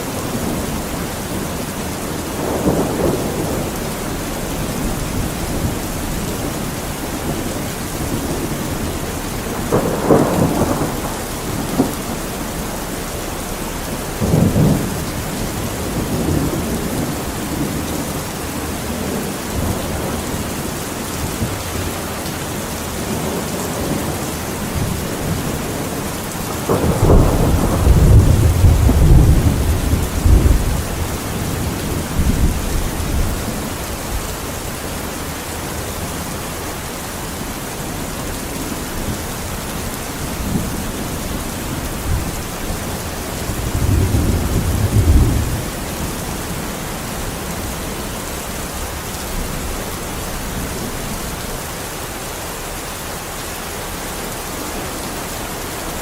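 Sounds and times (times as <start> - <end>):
thunder rumbling: 0.0 - 51.9
steady rain: 0.0 - 56.0.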